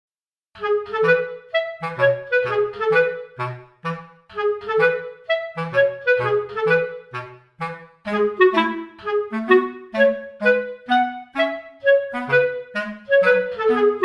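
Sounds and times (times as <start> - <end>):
bouncy melody over bass line: 0.6 - 14.0.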